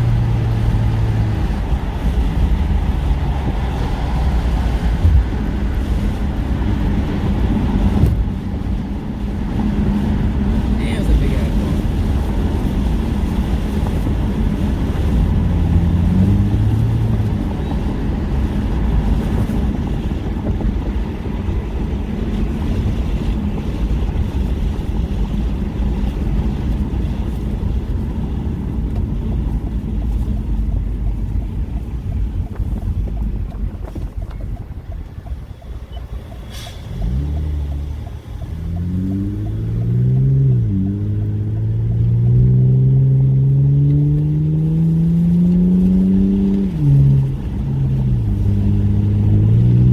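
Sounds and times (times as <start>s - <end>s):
car engine speeding up: 0.0s - 28.7s, 36.6s - 49.9s
road and wind rumble: 0.0s - 49.9s.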